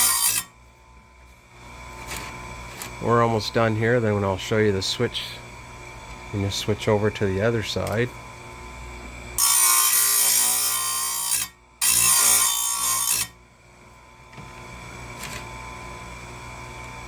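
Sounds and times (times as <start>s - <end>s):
quiet steady machine hum: 0.0s - 17.0s.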